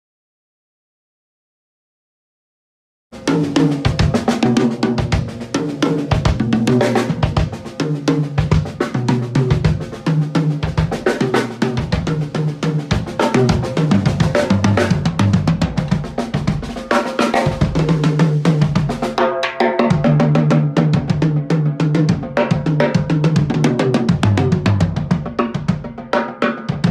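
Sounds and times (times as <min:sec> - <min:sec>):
drum kit groove: 0:03.2 - 0:26.9.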